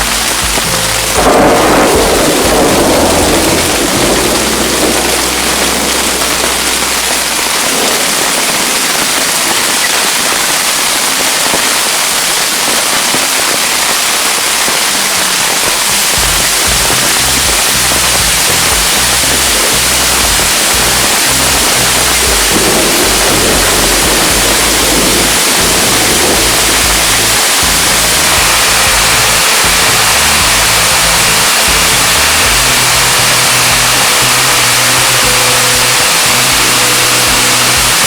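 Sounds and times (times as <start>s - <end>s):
thunder rumbling: 0.0s - 9.5s, 15.8s - 38.0s
heavy rain hiss: 0.0s - 38.0s.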